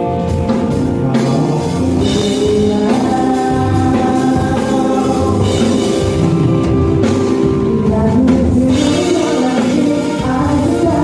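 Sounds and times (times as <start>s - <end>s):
band playing: 0.0s - 11.0s
person singing long notes: 0.7s - 11.0s.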